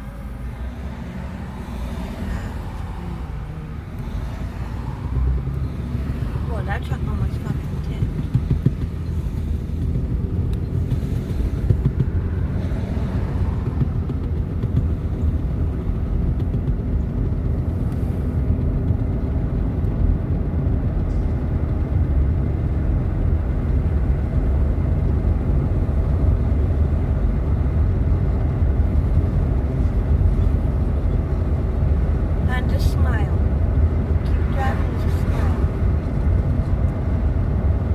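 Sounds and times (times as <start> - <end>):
car engine and tyre noise: 0.0 - 37.9.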